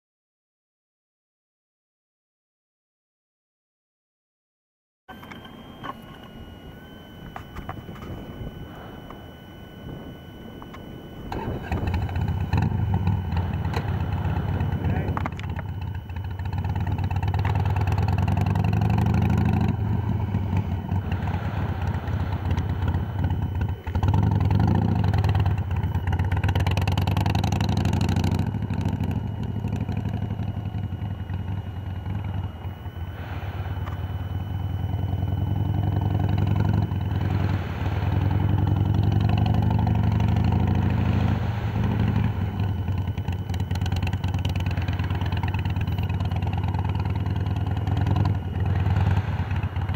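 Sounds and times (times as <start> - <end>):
motorcycle engine revving: 7.3 - 49.9.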